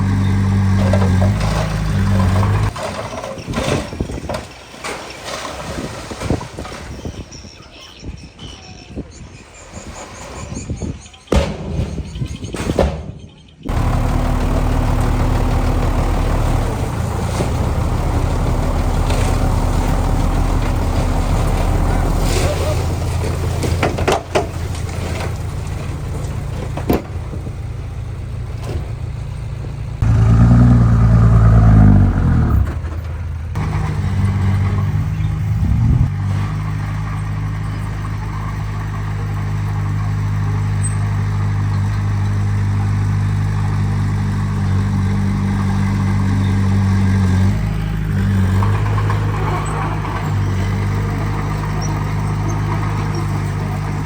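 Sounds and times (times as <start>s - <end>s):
diesel engine running and revving: 0.0s - 3.8s, 13.7s - 54.0s.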